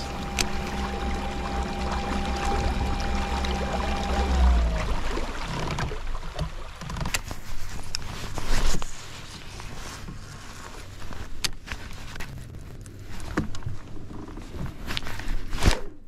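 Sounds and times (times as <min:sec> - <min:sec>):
water lapping against a kayak hull: 0:00.0 - 0:16.0.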